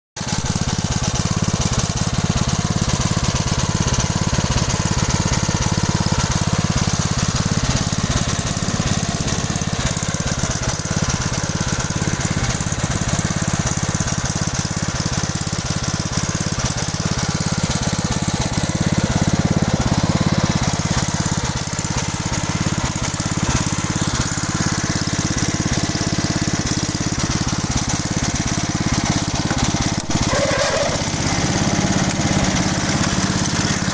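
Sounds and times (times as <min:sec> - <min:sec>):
small tractor engine running: 0:00.2 - 0:33.9.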